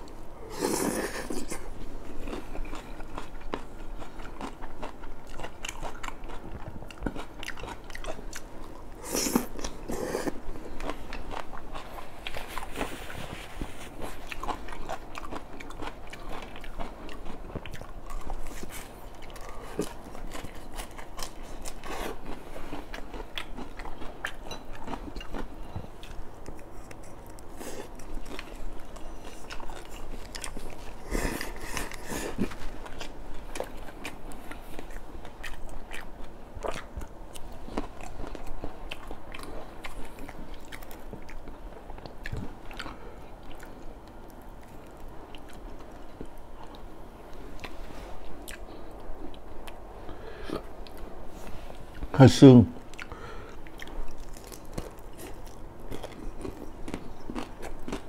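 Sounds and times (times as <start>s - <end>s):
chewing and biting food: 0.0s - 51.2s, 52.8s - 58.0s.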